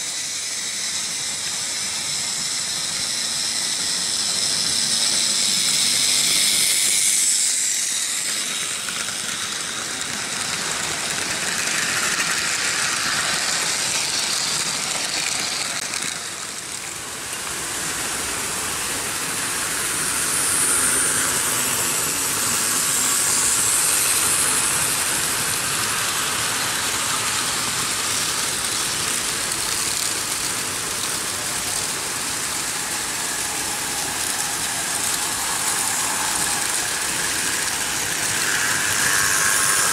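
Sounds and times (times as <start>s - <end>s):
model train motors whirring: 0.0s - 39.9s
wheels rolling over rails: 3.8s - 39.9s.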